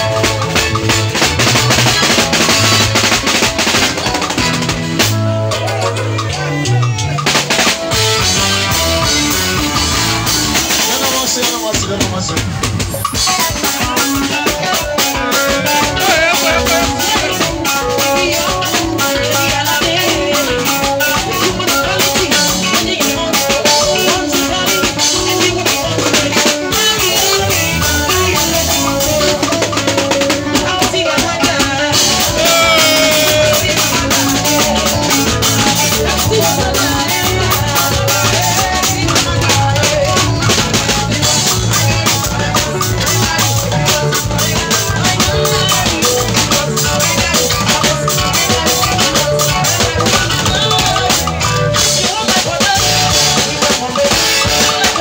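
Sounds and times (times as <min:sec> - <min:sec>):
drum kit: 0:00.0 - 0:55.0
electric guitar: 0:00.0 - 0:55.0.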